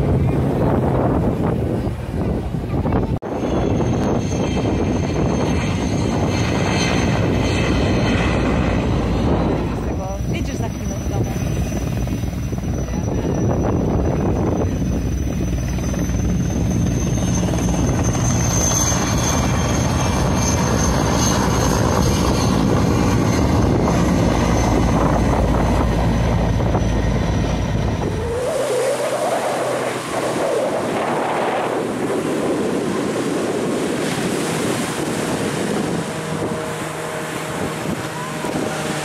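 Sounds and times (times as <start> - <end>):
helicopter rotor rumble: 0.0 - 39.0
high turbine whine: 0.0 - 39.0
plane engine drone: 0.0 - 39.0
wind on microphone: 0.0 - 39.0.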